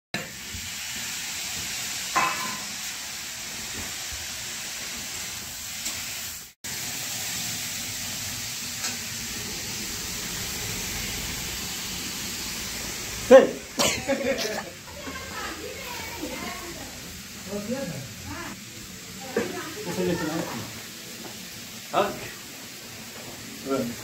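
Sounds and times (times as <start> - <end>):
food sizzling in a pan: 0.2 - 24.0.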